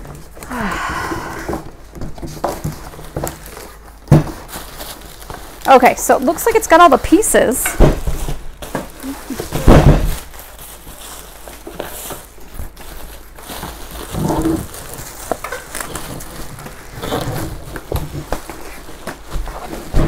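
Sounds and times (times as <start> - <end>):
knocks and rustles: 0.0 - 5.6, 6.4 - 20.0.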